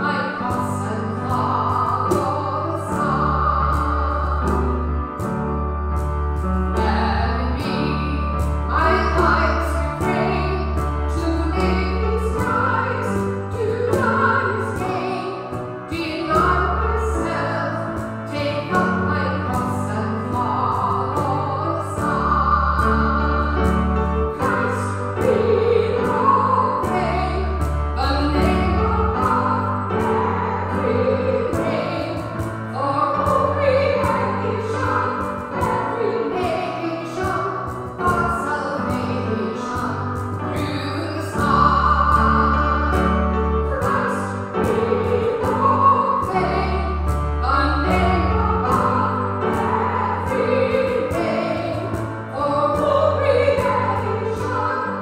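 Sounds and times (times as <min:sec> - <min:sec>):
woman singing a hymn: 0:00.0 - 0:04.9, 0:06.8 - 0:55.0
instrumental accompaniment: 0:00.0 - 0:55.0.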